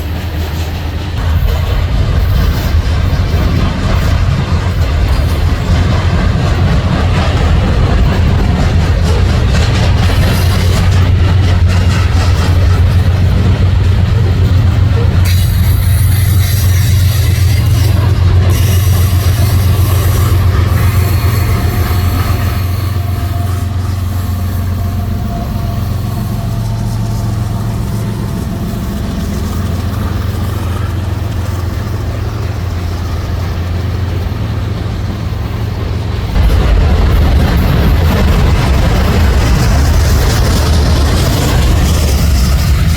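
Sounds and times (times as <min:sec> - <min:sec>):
train rumbling past: 0:00.0 - 0:42.9
train wheel squeal: 0:00.0 - 0:42.9.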